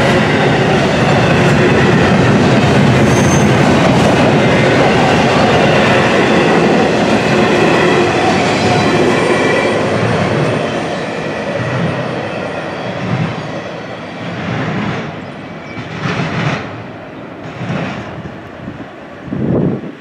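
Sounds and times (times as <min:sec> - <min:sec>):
freight train wheel clatter: 0:00.0 - 0:18.9.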